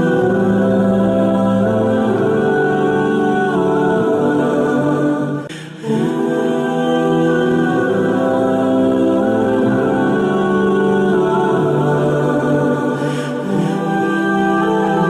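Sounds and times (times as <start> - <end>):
music with long held notes: 0.0 - 15.0.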